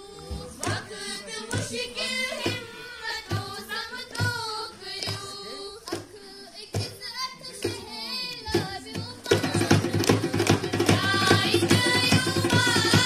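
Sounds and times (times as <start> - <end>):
girls singing together: 0.0 - 13.0
hand drum slow beat: 1.5 - 7.9, 8.5 - 13.0.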